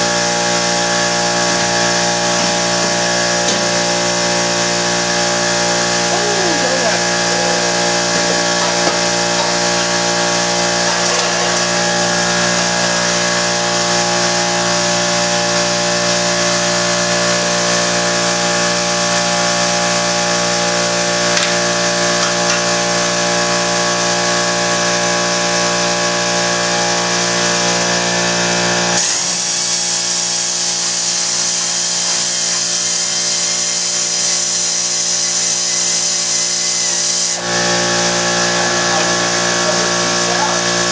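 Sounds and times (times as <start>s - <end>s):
power tool whining: 0.0s - 40.9s.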